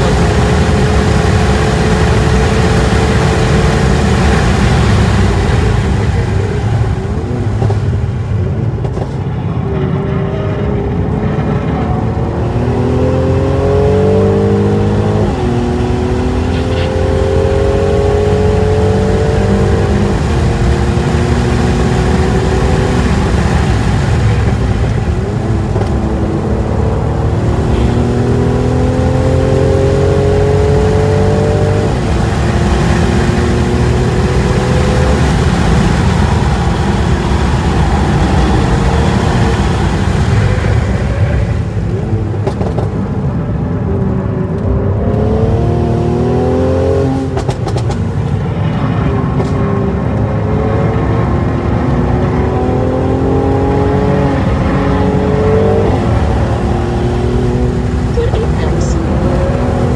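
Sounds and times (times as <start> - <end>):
car engine revving: 0.0 - 59.9
wind noise: 0.0 - 59.9.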